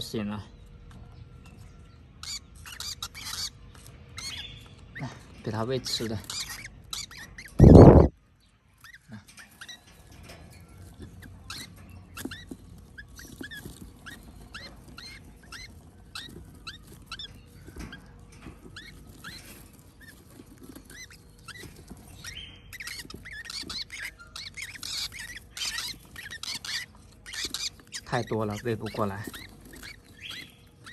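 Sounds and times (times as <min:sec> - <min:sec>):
parrot chicks chirping: 0:00.0 - 0:30.9.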